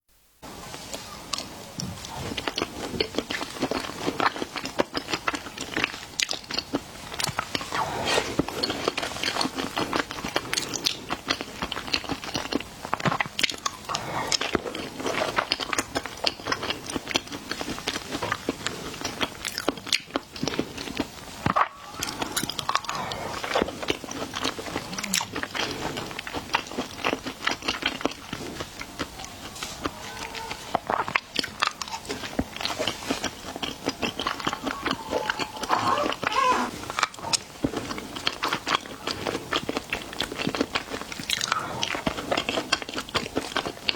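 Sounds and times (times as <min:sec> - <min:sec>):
crunchy chewing of shrimp: 0:00.9 - 0:43.9.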